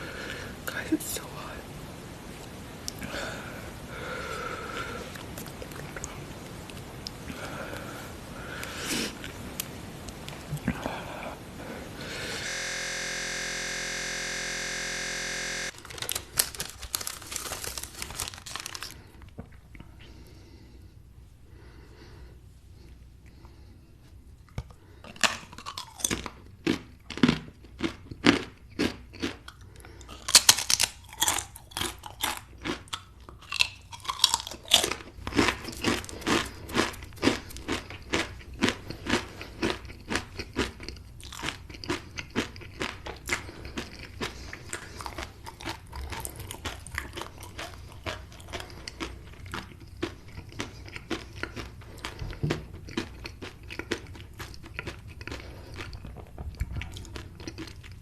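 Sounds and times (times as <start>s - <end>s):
person chewing crunchy food: 4.1s - 20.4s, 24.4s - 58.0s.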